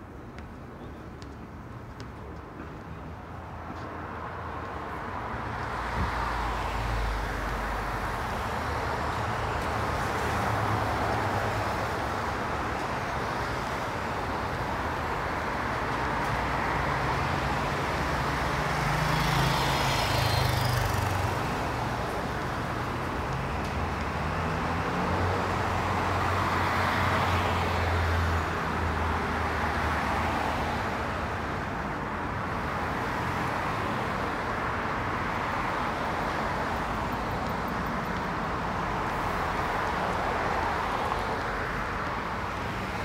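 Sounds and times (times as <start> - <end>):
cars driving past: 3.7 - 43.0.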